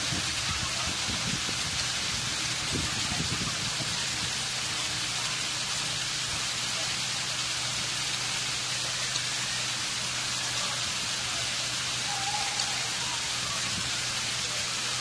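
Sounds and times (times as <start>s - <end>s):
waterfall splashing onto rocks: 0.0s - 15.0s.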